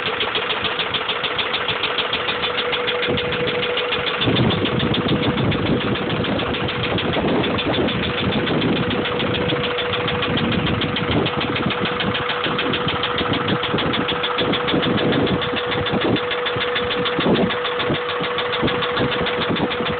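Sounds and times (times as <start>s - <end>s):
car engine idling: 0.0s - 19.9s
rapid engine knock: 0.0s - 19.9s.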